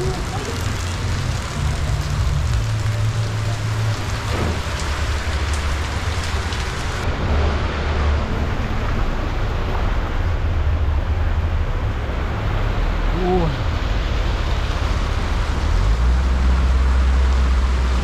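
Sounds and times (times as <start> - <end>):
heavy rain falling: 0.0 - 18.0
low rumble: 0.0 - 18.0.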